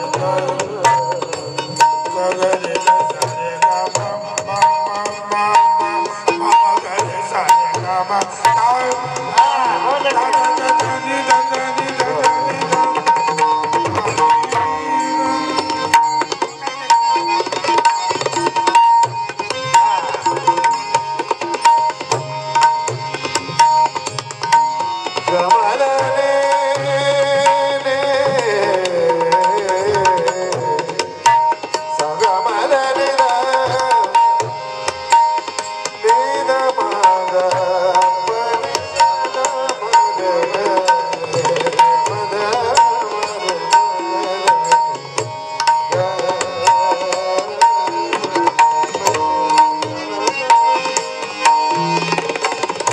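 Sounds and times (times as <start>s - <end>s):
devotional melodic line: 0.0s - 52.9s
hand drum playing fast: 0.0s - 52.9s.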